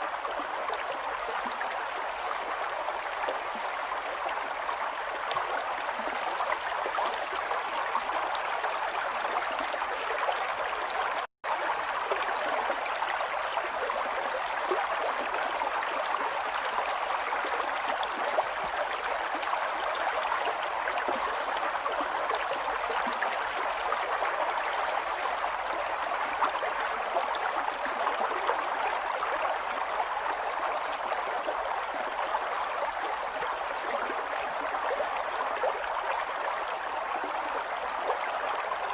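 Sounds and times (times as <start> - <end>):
stream water trickling and splashing: 0.0 - 38.9.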